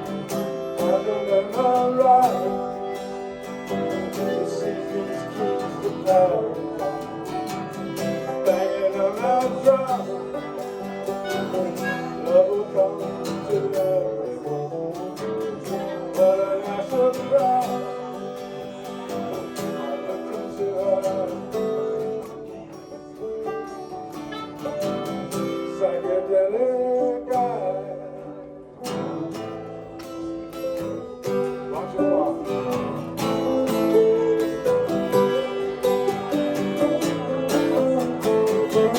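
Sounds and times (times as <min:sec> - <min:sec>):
acoustic guitar strumming: 0:00.0 - 0:38.9
person singing: 0:00.0 - 0:38.9.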